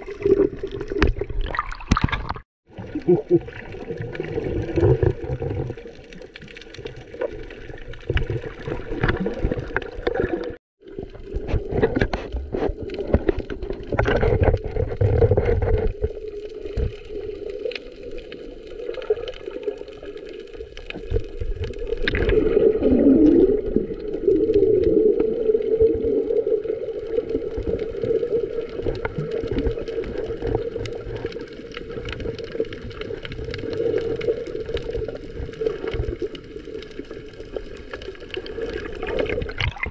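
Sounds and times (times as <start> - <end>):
bubbles underwater: 0.0 - 39.9
underwater sloshing and gurgling: 0.0 - 39.9.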